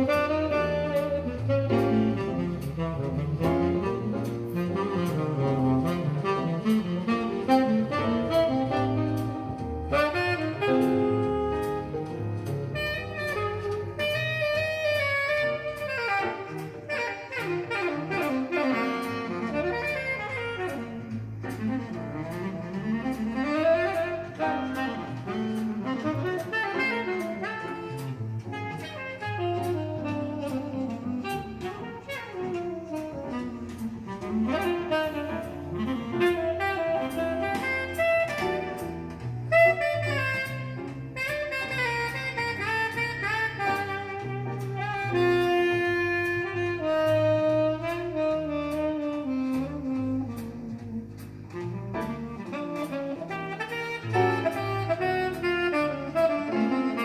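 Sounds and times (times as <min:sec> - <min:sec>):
saxophone jazz: 0:00.0 - 0:57.0.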